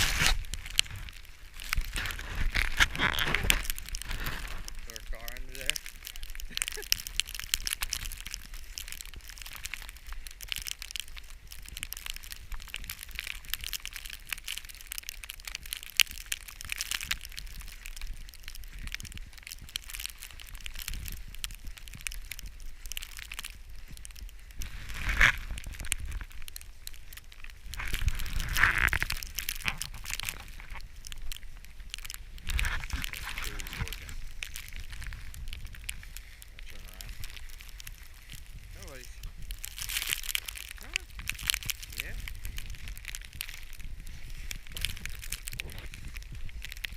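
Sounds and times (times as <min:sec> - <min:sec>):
footsteps crunching through snow: 0:00.0 - 0:46.9.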